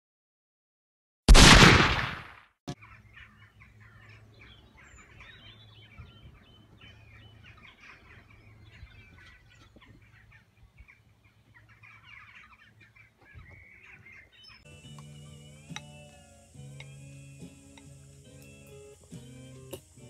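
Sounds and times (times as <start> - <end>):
birds chirping: 2.7 - 20.0.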